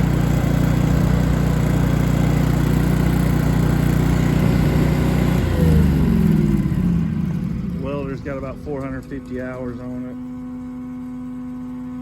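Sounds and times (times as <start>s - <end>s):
welder engine running: 0.0s - 12.0s.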